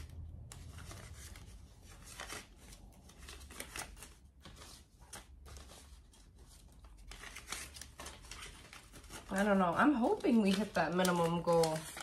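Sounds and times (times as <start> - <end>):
paper bills rustling: 0.0 - 12.0.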